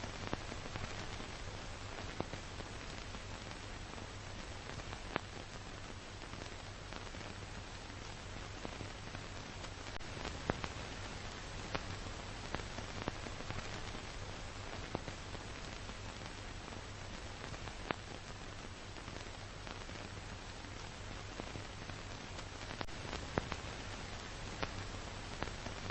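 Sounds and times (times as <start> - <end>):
steady hiss: 0.0 - 25.9.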